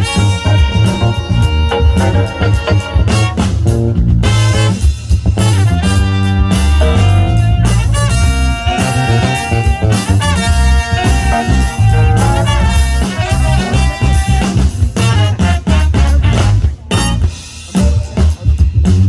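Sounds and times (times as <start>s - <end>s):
horns playing melody: 0.0s - 18.0s
bass guitar: 0.0s - 19.0s
drum kit: 0.0s - 19.0s
funk band playing: 0.0s - 19.0s.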